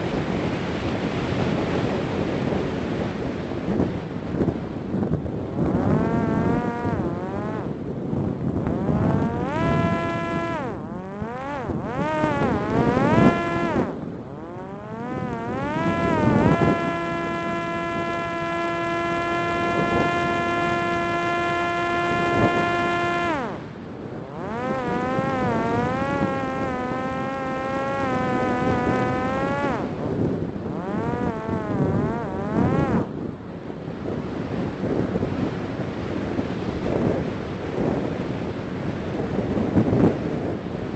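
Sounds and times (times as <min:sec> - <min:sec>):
drone propeller buzzing: 0:00.0 - 0:38.3.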